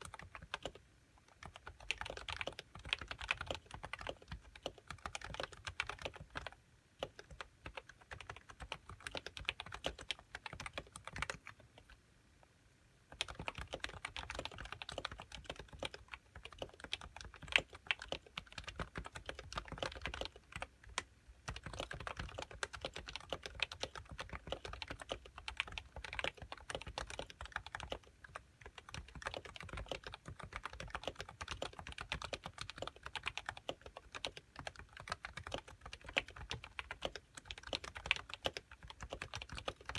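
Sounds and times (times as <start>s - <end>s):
fast keyboard typing: 0.0s - 12.0s, 13.1s - 39.9s.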